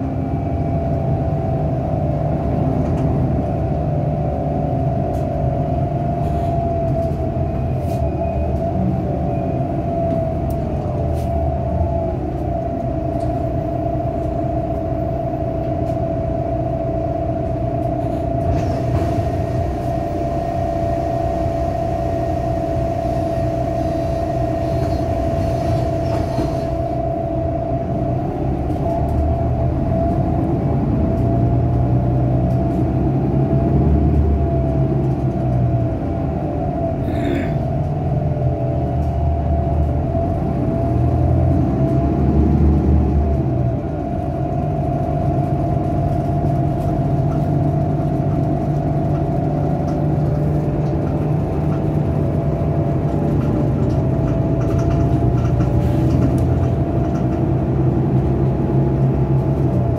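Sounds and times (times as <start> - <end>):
bus engine rumble: 0.0 - 59.9
constant whine: 0.0 - 59.9.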